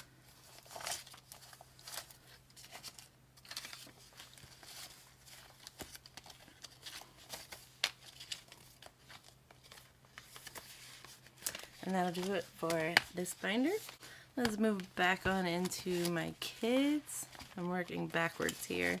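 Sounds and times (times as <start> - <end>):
banknotes rustling and flicking: 0.3 - 19.0.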